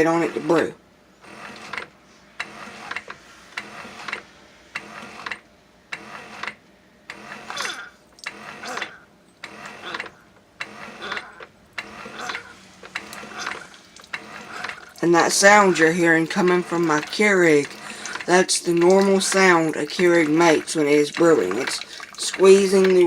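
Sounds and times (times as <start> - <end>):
coffee maker pump pulsing: 0.0 - 23.0.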